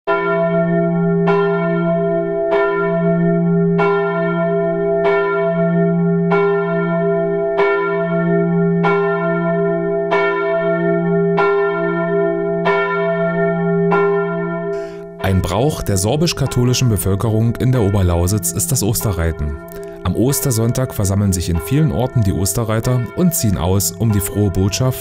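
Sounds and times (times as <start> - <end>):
church bell tolling: 0.1 - 25.0.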